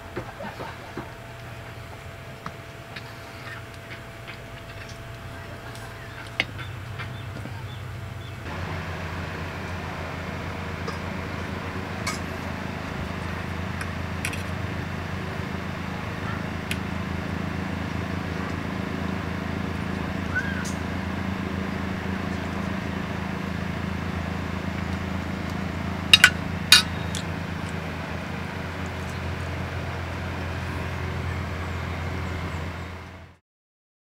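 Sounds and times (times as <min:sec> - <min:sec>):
low motor hum: 0:00.0 - 0:33.4.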